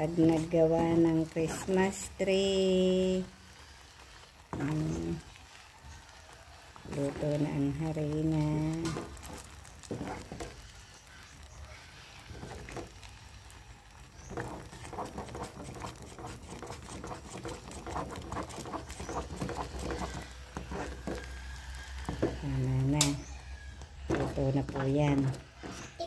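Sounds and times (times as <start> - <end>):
spoon scraping thick paste in pot: 0.0 - 2.4, 3.2 - 5.6, 6.7 - 11.0, 12.2 - 13.3, 13.9 - 26.0.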